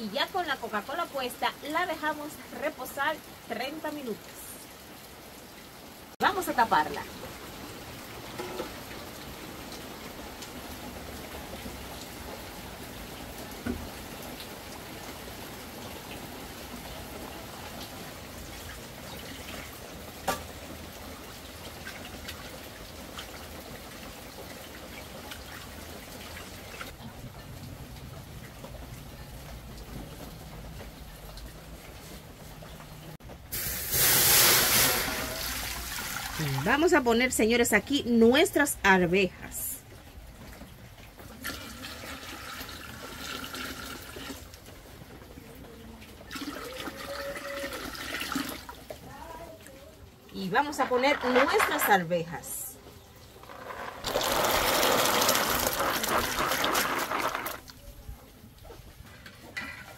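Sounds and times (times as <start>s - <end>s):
steady rain hissing: 0.0s - 59.8s.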